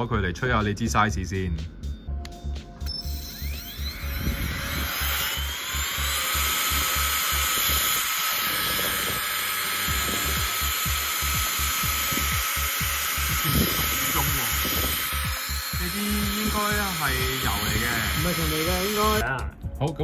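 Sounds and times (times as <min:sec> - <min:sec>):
electric air blower whining: 0:02.9 - 0:19.4.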